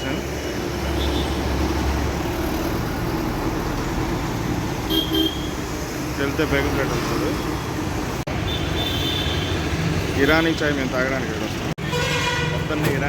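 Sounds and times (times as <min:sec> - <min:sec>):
rumble of passing vehicles: 0:00.0 - 0:13.0.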